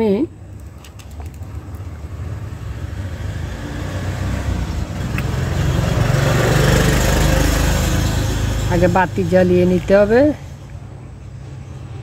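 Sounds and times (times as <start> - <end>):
vehicle engine approaching: 0.6 - 12.0.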